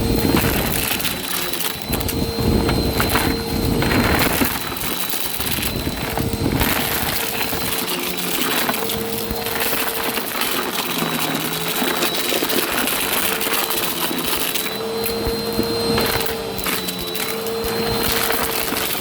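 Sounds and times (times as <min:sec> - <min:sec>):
debris crackling in vacuum: 0:00.0 - 0:19.0
vacuum cleaner motor whine: 0:00.0 - 0:19.0.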